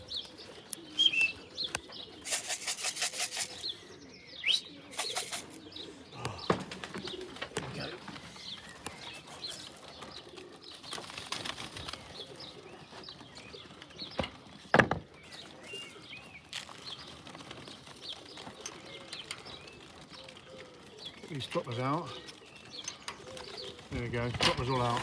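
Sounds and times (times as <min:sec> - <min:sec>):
pigeon wings flapping: 0:00.0 - 0:03.8, 0:04.9 - 0:25.0
pigeons cooing: 0:00.0 - 0:25.0.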